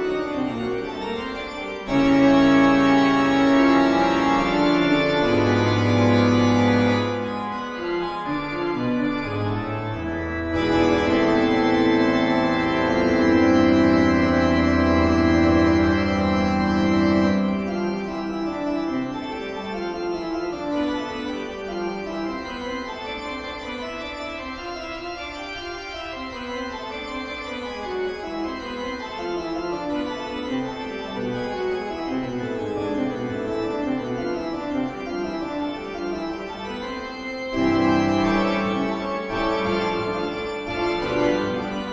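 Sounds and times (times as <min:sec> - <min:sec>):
eerie organ music: 0:00.0 - 0:41.9.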